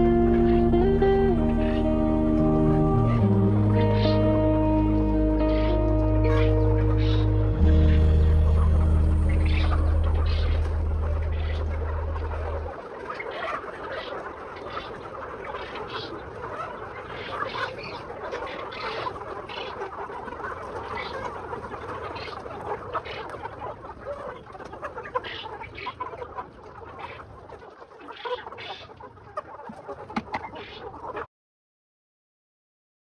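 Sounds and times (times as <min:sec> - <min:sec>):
poultry flock chattering: 0:00.0 - 0:31.3
sharp poultry calls: 0:00.0 - 0:31.3.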